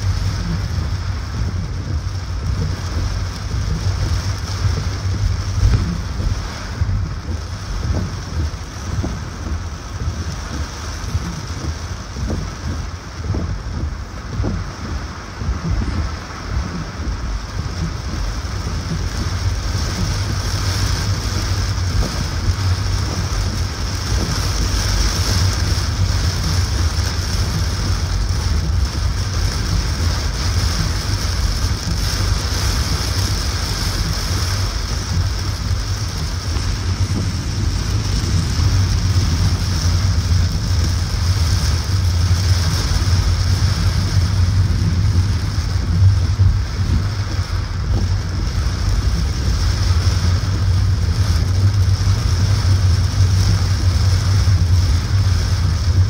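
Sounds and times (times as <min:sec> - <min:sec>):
heavy rain: 0:00.0 - 0:56.0
low road rumble: 0:00.0 - 0:56.0
tyre hiss on wet road: 0:00.0 - 0:56.0.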